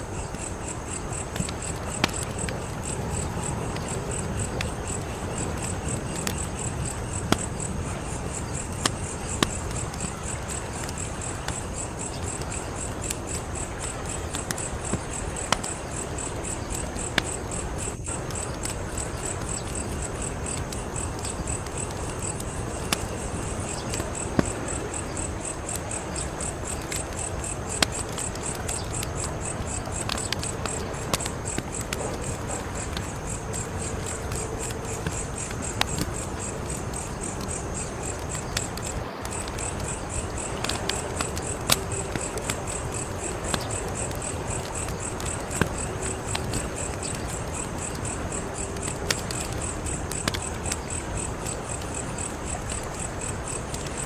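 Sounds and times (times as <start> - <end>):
crickets chirping: 0.0 - 54.0
wood fire crackling: 0.0 - 54.0.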